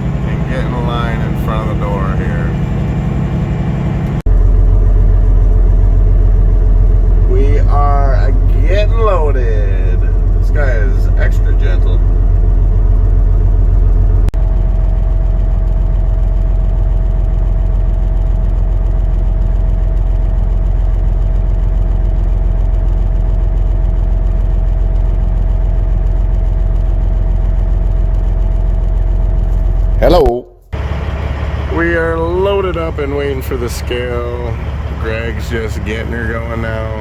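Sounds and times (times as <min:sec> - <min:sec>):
diesel engine idling: 0:00.0 - 0:37.0
steady whine: 0:00.0 - 0:37.0.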